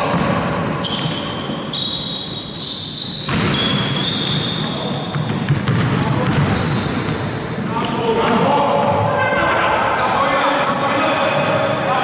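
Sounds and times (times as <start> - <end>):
low hall noise: 0.0 - 12.0
sneakers squeaking on court floor: 0.0 - 12.0.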